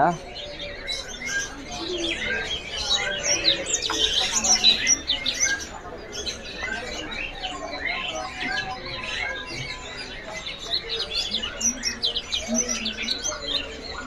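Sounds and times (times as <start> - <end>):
songbirds chirping and singing: 0.0 - 14.0.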